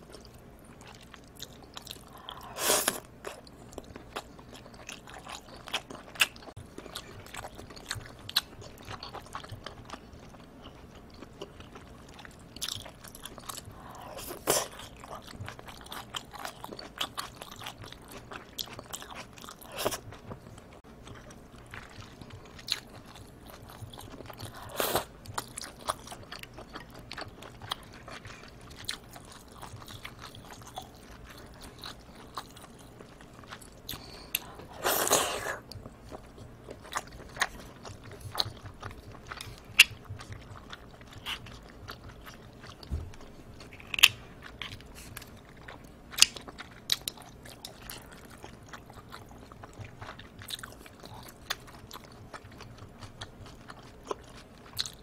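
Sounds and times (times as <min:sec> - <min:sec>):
wet chewing and biting: 0:00.1 - 0:55.0.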